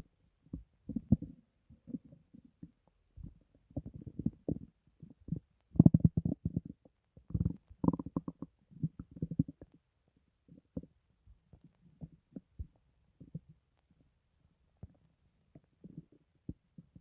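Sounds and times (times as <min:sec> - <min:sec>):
stomach gurgling: 0:00.0 - 0:14.1, 0:14.7 - 0:17.0.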